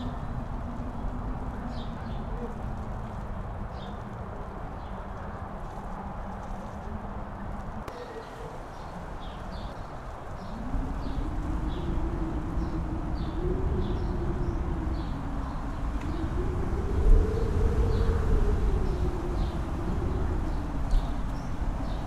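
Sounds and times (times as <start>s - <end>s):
wind buffeting microphone: 0.0s - 22.0s
wind howling: 0.0s - 22.0s.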